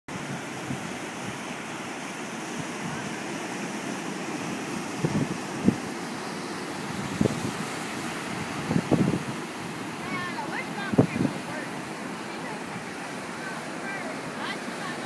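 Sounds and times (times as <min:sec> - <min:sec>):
strong wind: 0:00.1 - 0:15.0
surf washing over beach: 0:00.1 - 0:15.0
wind buffeting microphone: 0:00.1 - 0:15.0.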